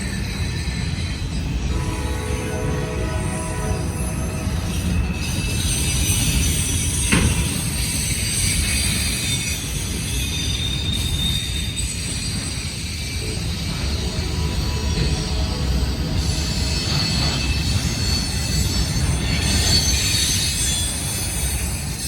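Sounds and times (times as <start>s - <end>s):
high-pitched wheel squeal: 0.0s - 22.0s
train cars rumbling on rails: 0.0s - 22.0s.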